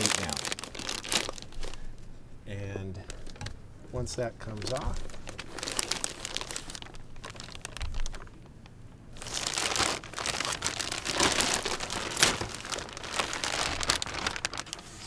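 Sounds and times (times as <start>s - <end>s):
plastic bag crinkling: 0.0s - 2.0s, 3.0s - 3.5s, 4.4s - 15.0s.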